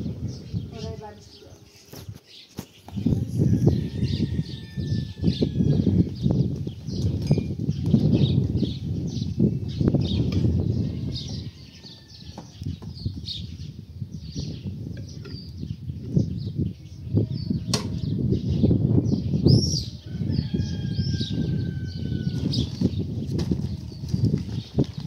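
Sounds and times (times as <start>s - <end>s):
small birds chirping: 0.0s - 25.0s
wind buffeting microphone: 0.0s - 25.0s.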